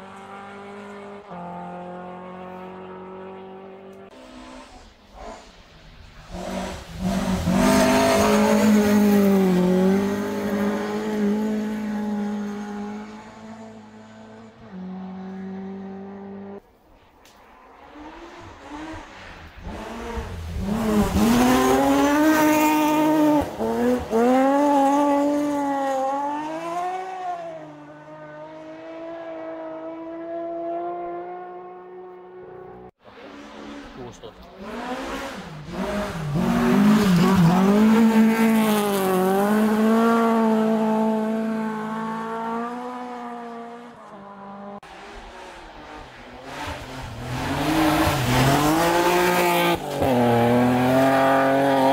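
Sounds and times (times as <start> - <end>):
rally cars racing on gravel: 0.0 - 31.4, 32.4 - 51.9.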